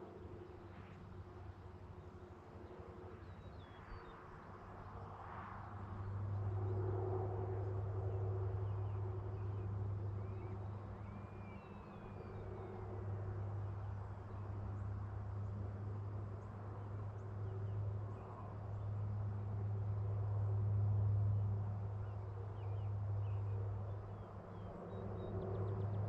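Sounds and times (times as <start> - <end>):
low engine-like drone: 0.0 - 26.0.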